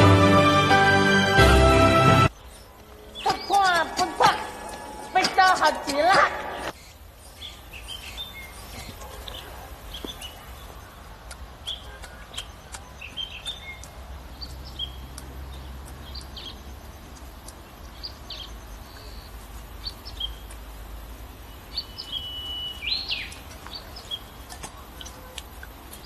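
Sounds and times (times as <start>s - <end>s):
bird chirps and calls: 2.3s - 20.7s, 21.3s - 26.0s.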